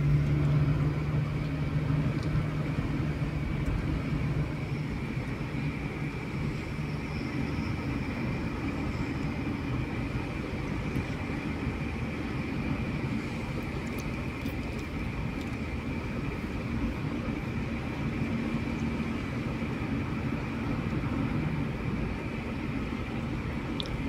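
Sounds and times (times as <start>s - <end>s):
car engine droning: 0.0s - 24.0s
tyres on asphalt: 0.0s - 24.0s.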